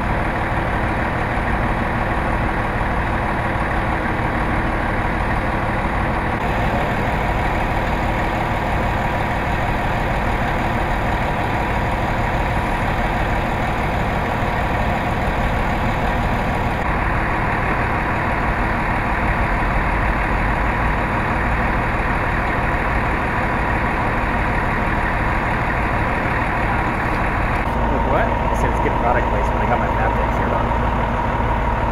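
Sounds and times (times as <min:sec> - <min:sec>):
truck engine idling: 0:00.0 - 0:31.9.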